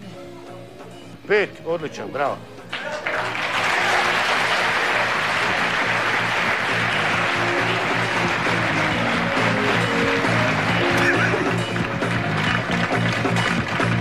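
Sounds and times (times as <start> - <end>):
closing theme music: 0.3 - 14.0
audience applauding: 2.7 - 14.0.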